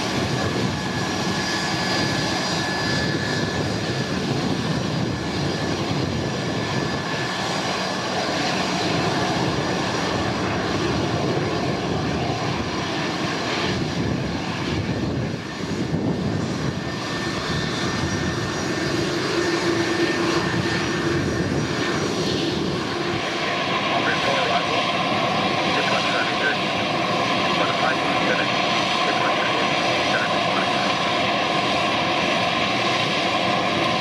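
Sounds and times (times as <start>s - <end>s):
jet engines rushing with whine: 0.0s - 34.0s.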